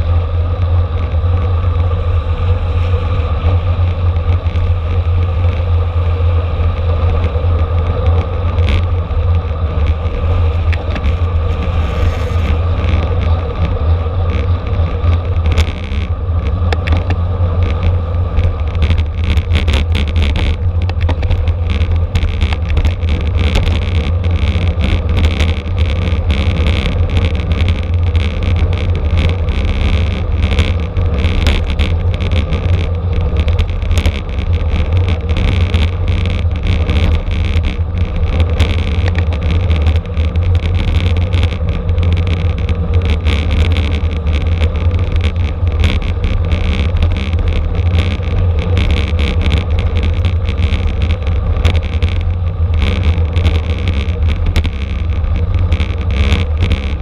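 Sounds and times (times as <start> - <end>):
wind rumbling on microphone: 0.0 - 57.0
bike rattling clicks: 6.7 - 57.0.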